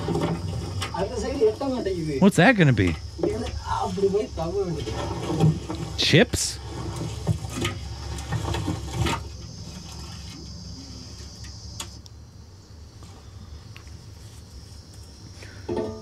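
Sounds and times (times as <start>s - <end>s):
high-pitched insect hum: 0.0s - 16.0s.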